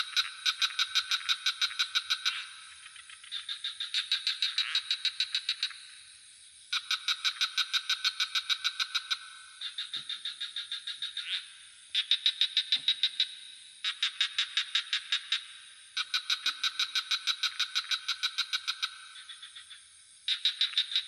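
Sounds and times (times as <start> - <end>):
frogs calling in pulse trains: 0.0 - 21.0.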